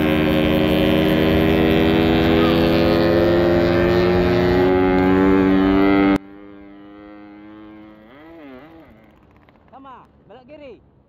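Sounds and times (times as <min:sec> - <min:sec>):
two-stroke motorcycle engine running: 0:00.0 - 0:10.0
quieter engine: 0:00.0 - 0:10.2.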